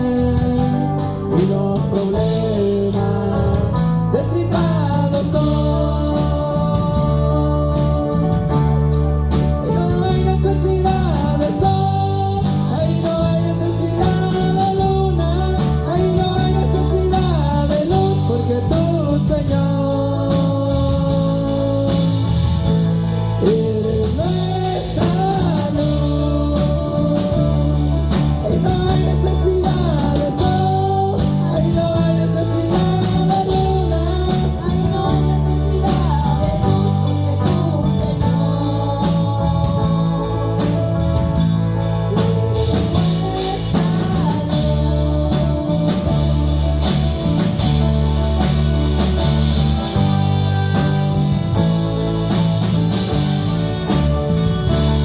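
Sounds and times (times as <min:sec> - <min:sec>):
person singing melody: 0:00.0 - 0:55.0
worship band playing: 0:00.0 - 0:55.0.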